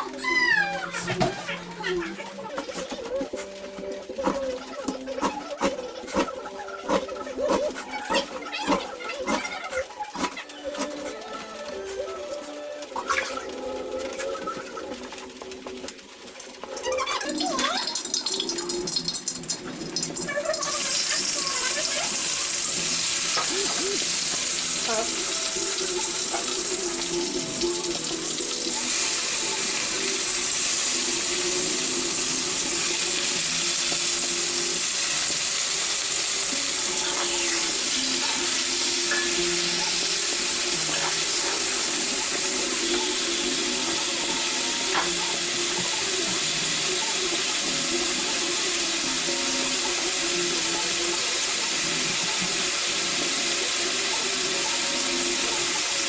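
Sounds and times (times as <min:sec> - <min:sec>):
food sizzling in hot oil: 0:02.5 - 0:56.0.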